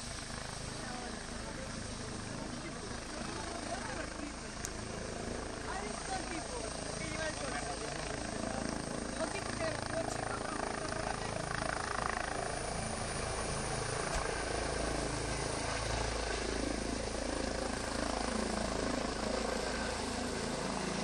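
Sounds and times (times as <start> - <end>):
helicopter rotor drone: 0.0 - 21.0.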